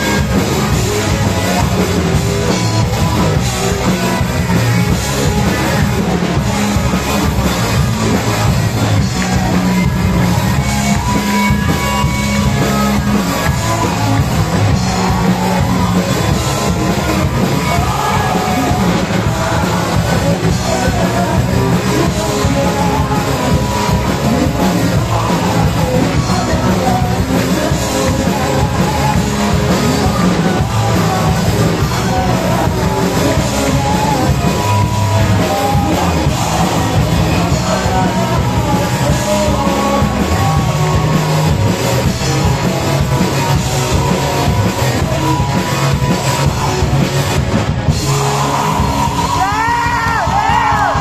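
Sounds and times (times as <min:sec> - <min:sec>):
rock band playing live: 0:00.0 - 0:51.0.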